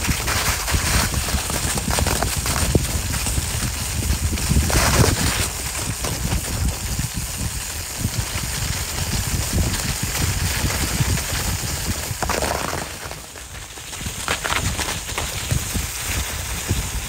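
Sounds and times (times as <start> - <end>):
bike tyres crunching on snow: 0.0 - 17.0
wind rumble on microphone: 0.0 - 17.0.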